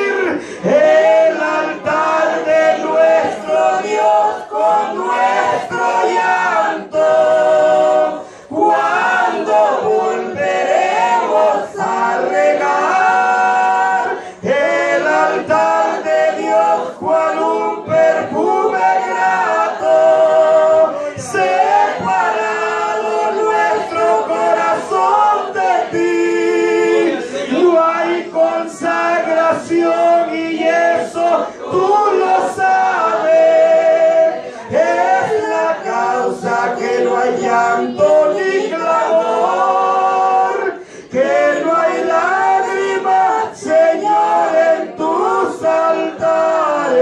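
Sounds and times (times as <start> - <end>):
man and woman singing a hymn: 0.0 - 47.0.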